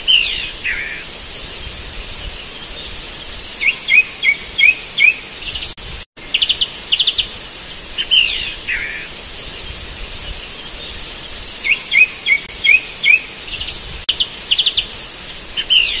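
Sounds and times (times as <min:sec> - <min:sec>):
birds chirping and trilling: 0:00.0 - 0:16.0
steady hiss: 0:00.0 - 0:16.0.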